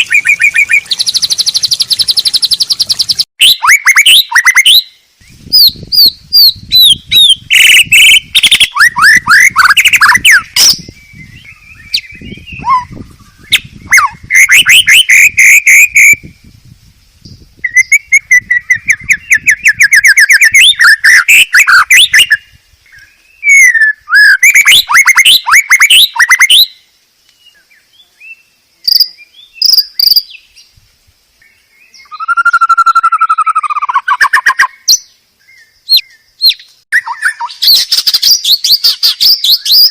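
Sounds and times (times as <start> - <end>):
songbird trills: 0.0 - 16.5, 17.2 - 30.7, 31.4 - 39.9.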